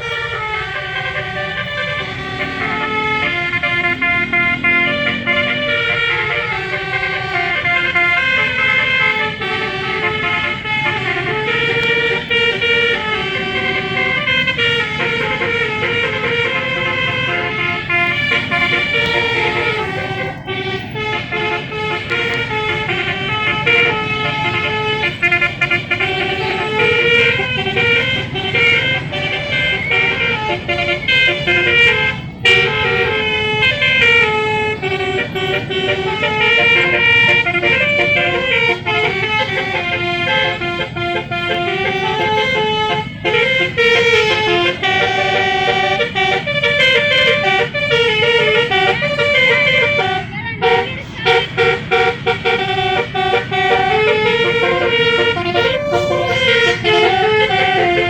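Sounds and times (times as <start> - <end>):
multi-tone bus horn melody: 0.0 - 58.0.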